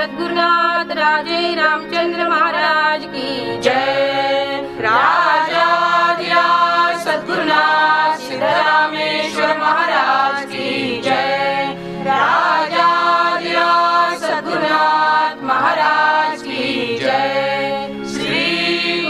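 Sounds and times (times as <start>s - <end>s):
group chanting in unison: 3.7s - 19.0s.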